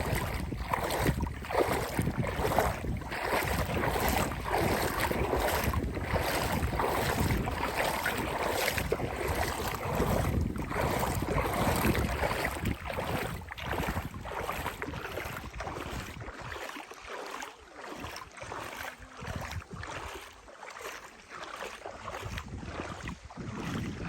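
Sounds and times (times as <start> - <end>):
wind buffeting microphone: 0.0 - 16.6, 18.4 - 20.3, 22.0 - 24.0.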